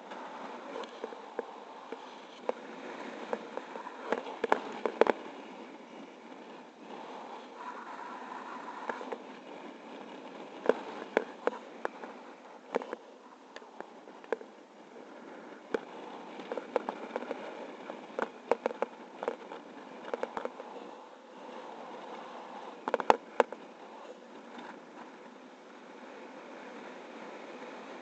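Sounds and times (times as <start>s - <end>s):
wind rushing on microphone: 0.0s - 28.0s
sharp crackles and pops: 0.1s - 5.5s, 6.2s - 23.8s.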